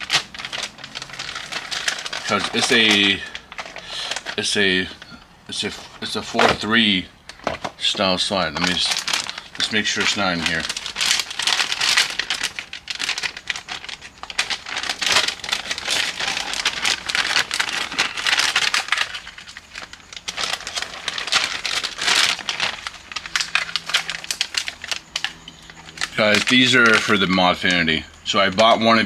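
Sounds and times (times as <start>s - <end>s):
plastic bag crinkling: 0.0s - 29.0s.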